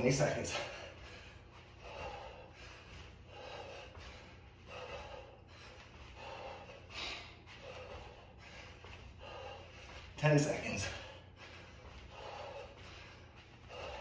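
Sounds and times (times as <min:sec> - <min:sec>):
man breathing hard: 0:00.0 - 0:14.0.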